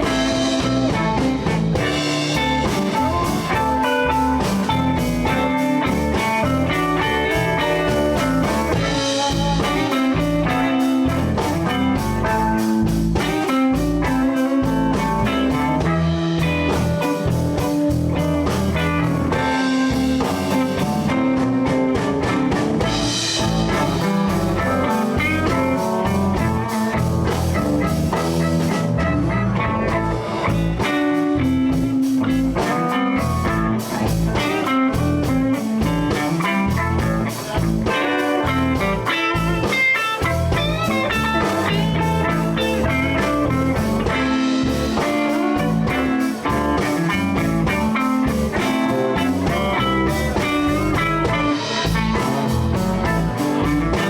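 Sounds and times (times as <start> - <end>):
bass guitar: 0.0 - 54.0
blues guitar lines: 0.0 - 54.0
drum kit beat: 0.0 - 54.0.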